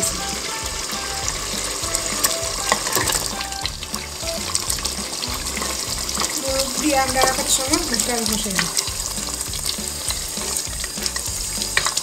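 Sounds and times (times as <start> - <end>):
chicken sizzling in sauce: 0.0 - 12.0.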